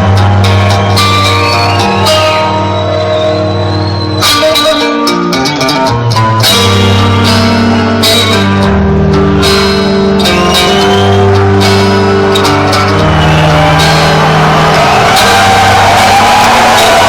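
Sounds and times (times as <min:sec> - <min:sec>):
guitar chords: 0:00.0 - 0:17.0.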